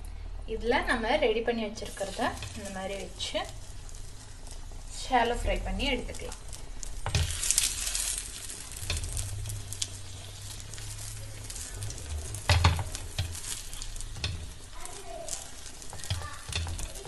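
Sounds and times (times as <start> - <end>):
butter sizzling on a pan: 0.6 - 17.0.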